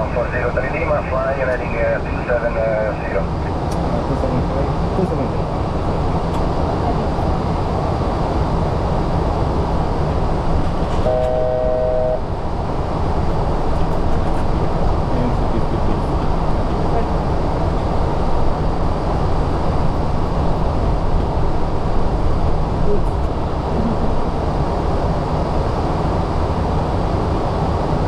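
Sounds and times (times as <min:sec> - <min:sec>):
airflow and engine noise: 0:00.0 - 0:28.0.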